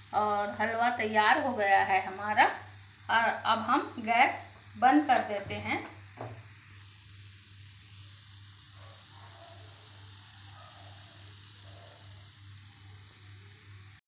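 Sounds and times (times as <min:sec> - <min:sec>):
faint sizzling in a pan: 0:00.0 - 0:14.0.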